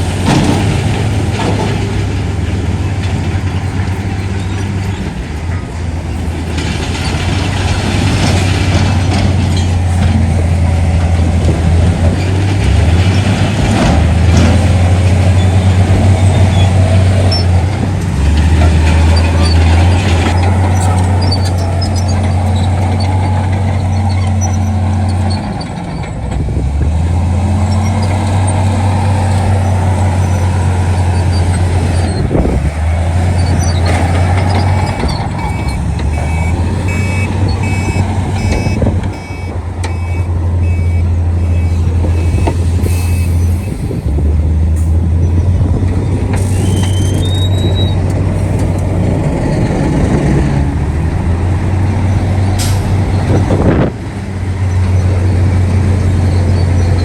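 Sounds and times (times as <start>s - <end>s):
heavy diesel machinery engine drone: 0.0s - 57.0s.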